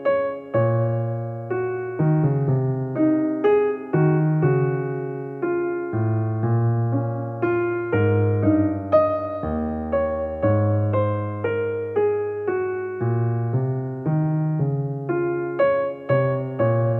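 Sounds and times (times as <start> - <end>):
piano-like keyboard notes: 0.0 - 16.9.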